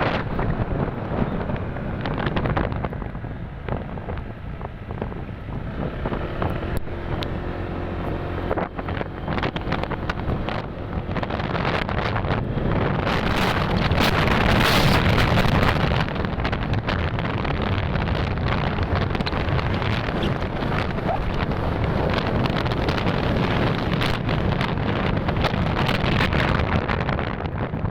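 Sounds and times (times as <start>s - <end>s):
motorcycle engine hum: 0.0s - 27.9s
wind buffeting microphone: 0.0s - 27.9s.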